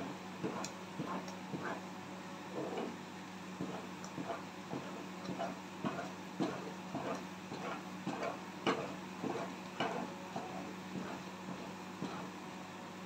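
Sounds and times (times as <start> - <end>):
wooden spoon stirring in metal pot: 0.4 - 1.9, 2.5 - 12.3.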